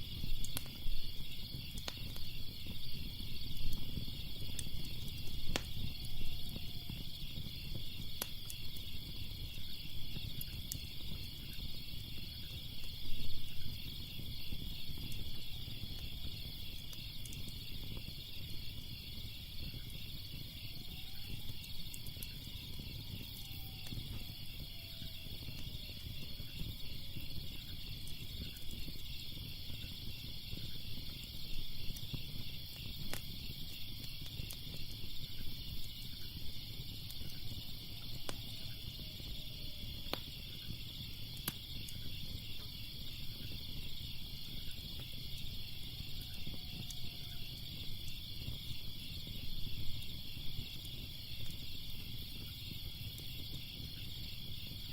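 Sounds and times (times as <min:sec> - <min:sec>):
crickets chirping: 0:00.0 - 0:54.9
wood fire crackling: 0:00.0 - 0:54.9.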